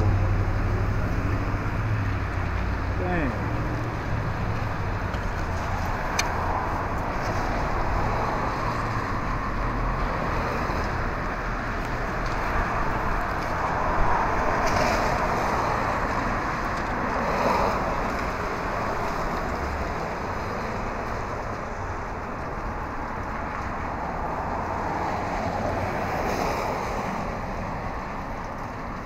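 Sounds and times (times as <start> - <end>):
tyres on wet pavement: 0.0 - 29.0.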